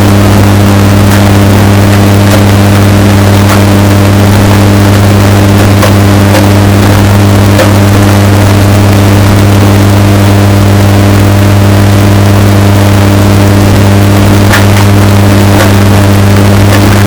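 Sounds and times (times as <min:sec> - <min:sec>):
distorted washing machine hum: 0:00.0 - 0:17.0.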